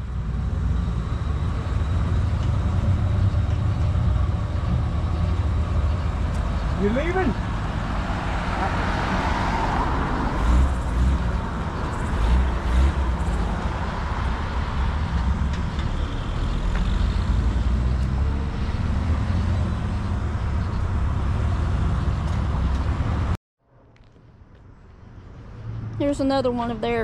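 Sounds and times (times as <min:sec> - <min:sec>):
car engine driving away: 0:00.0 - 0:24.3.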